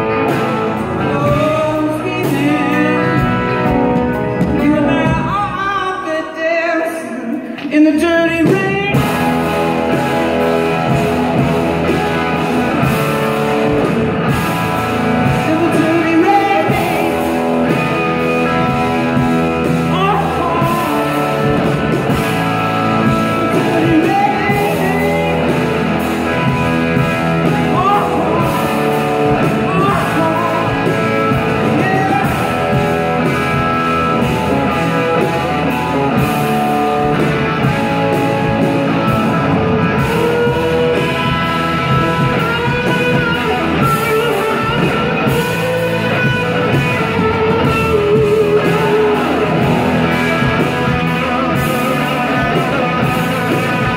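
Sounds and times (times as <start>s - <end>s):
sustained gliding guitar notes: 0.0s - 5.6s, 8.9s - 53.9s
live rock band playing: 0.0s - 53.9s.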